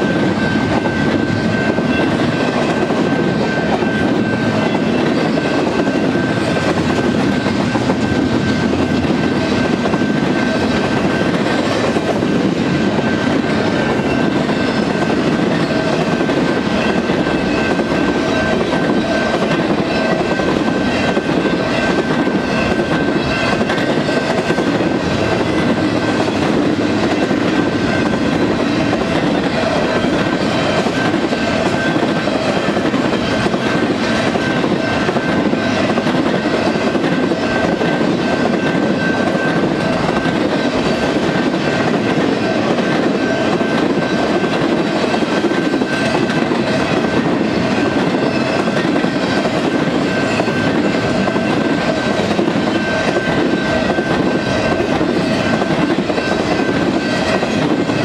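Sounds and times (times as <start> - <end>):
train wheels on rail: 0.0 - 58.0.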